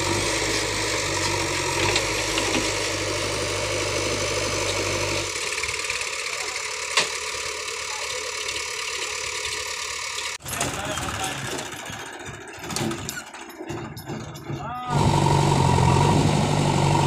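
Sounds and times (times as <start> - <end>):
backhoe digging soil: 0.0 - 6.0, 8.4 - 17.0
diesel engine rumbling: 0.0 - 17.0.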